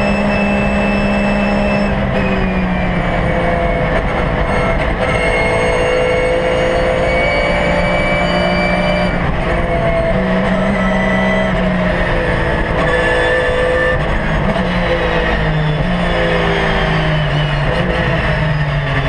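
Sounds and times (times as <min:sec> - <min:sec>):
racing engine changing gears: 0:00.0 - 0:19.0.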